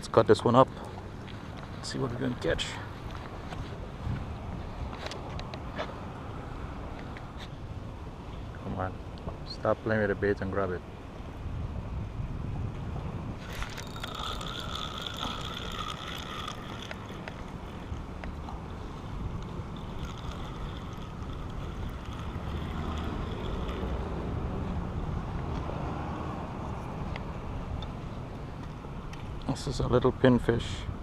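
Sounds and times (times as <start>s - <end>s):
wind on microphone: 1.2s - 8.6s, 11.3s - 29.4s.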